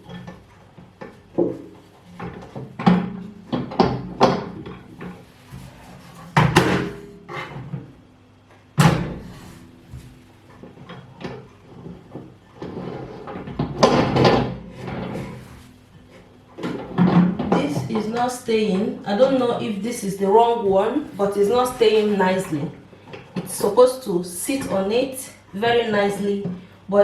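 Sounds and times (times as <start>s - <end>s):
microwave turntable parts clattering: 0.0s - 8.0s, 8.8s - 26.7s.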